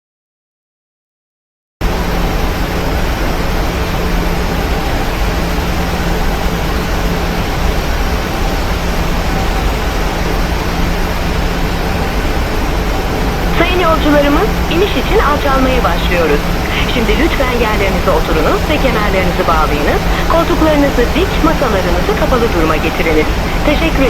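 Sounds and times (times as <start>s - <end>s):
airliner cabin airflow and engines: 1.8s - 24.0s
low steady hum: 1.8s - 24.0s.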